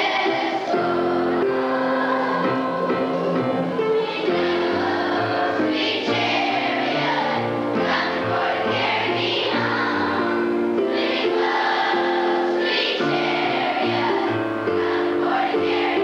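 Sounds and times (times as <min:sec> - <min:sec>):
children's choir singing: 0:00.0 - 0:16.0
instrumental accompaniment: 0:00.0 - 0:16.0.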